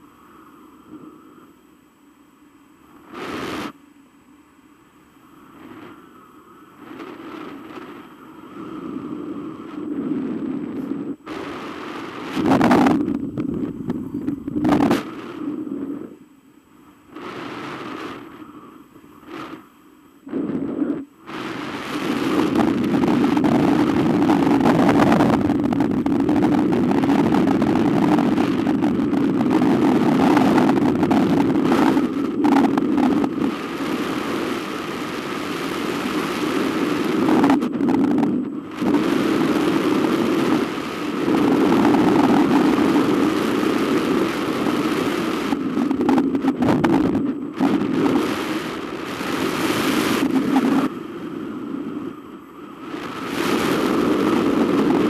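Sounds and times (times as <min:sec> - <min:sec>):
wind rushing over microphone: 0:00.0 - 0:01.7, 0:02.8 - 0:03.8, 0:05.1 - 0:55.0.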